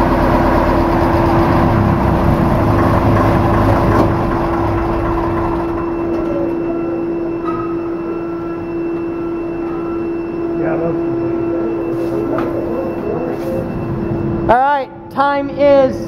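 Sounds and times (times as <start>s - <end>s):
large engine running: 0.0s - 14.5s.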